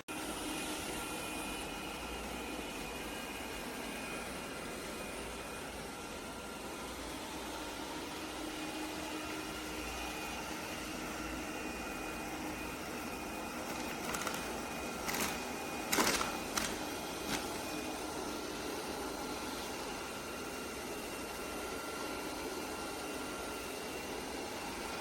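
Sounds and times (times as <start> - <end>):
robot vacuum whirring: 0.2 - 25.0.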